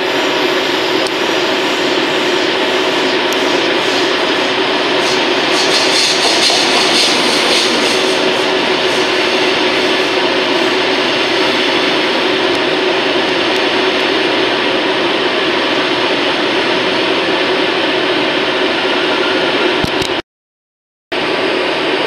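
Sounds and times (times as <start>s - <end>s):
train coaches rolling on rails: 0.0s - 20.2s.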